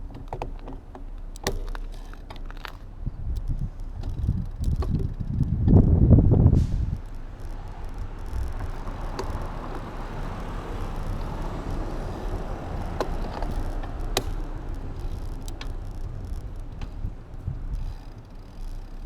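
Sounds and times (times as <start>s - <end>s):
bicycle road rumble: 0.0s - 19.0s
sharp clicks: 0.0s - 19.0s
wind while cycling: 0.0s - 19.0s.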